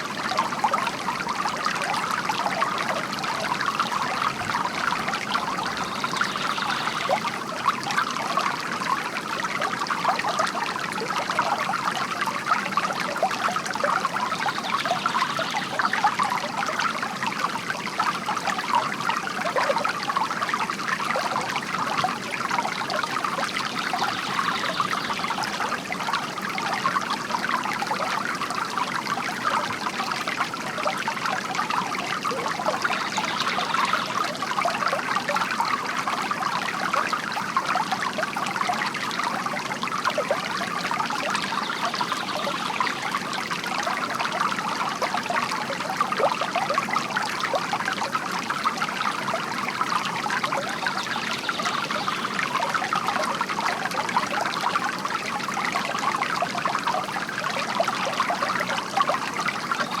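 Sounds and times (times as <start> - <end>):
water trickling from fountain: 0.0 - 60.0.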